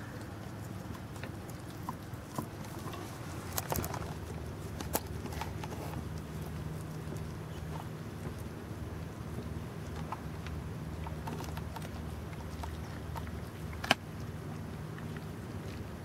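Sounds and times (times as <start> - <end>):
dog chewing raw meat: 0.0 - 16.0.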